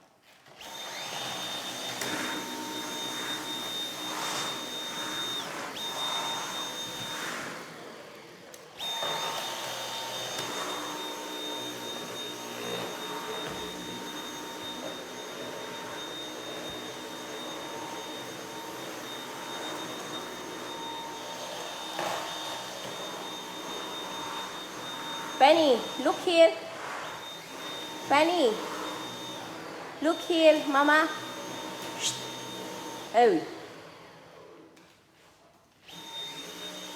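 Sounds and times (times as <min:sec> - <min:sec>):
vacuum cleaner whining: 0:00.1 - 0:36.9.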